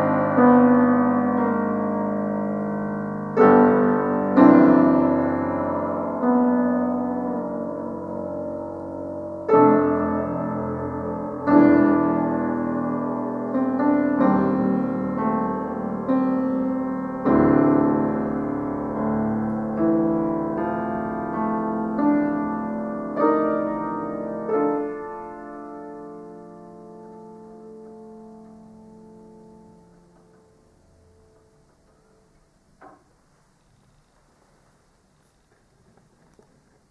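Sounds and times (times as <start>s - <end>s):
grand piano playing slow chords: 0.0s - 36.9s.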